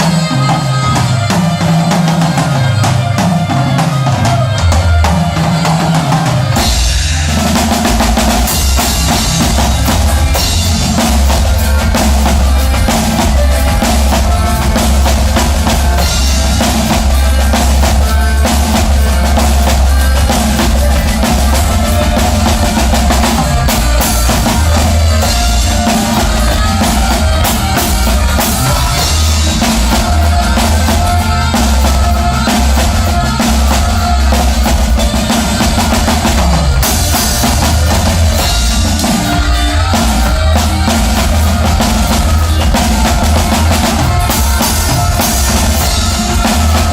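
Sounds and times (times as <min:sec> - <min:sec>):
band playing live: 0:00.0 - 0:46.9
drum kit: 0:00.0 - 0:46.9
heavy bass line: 0:00.0 - 0:46.9.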